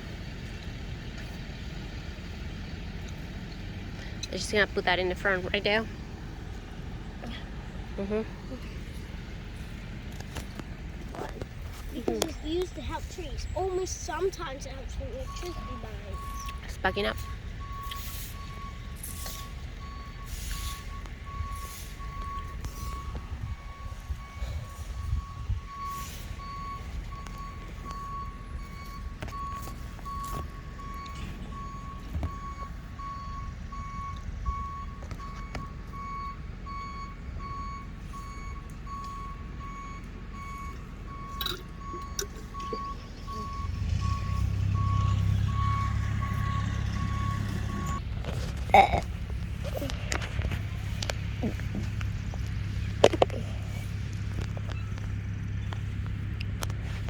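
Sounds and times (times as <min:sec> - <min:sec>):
truck reversing alarm beeping: 0:00.0 - 0:11.0, 0:11.7 - 0:48.5, 0:49.2 - 0:56.8
diesel engine running: 0:00.0 - 0:57.0.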